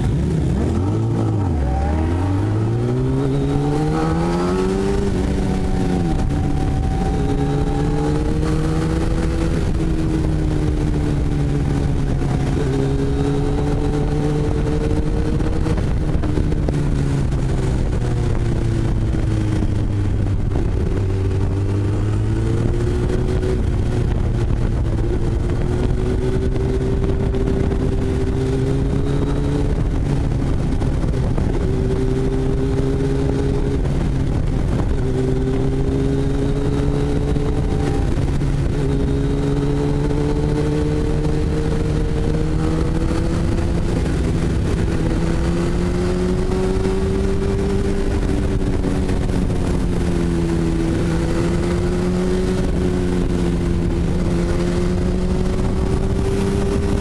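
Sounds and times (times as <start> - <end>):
low rush of wind noise: 0.0 - 57.0
motorcycle engine revving through gears: 0.0 - 57.0.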